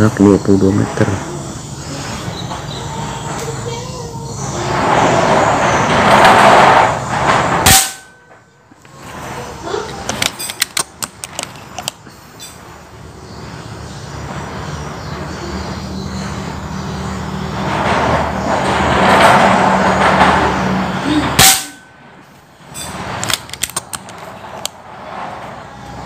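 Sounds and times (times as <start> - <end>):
vehicle engine passing: 0.0 - 26.0.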